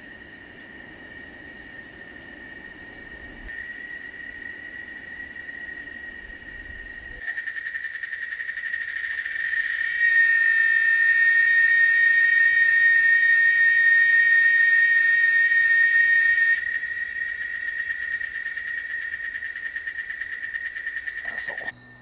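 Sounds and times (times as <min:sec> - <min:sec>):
cicada drone: 0:00.0 - 0:22.0.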